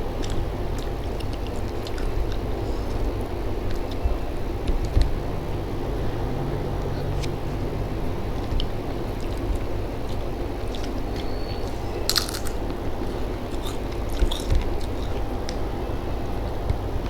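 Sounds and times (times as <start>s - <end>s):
crunchy chewing: 0.0s - 5.2s, 5.8s - 15.8s.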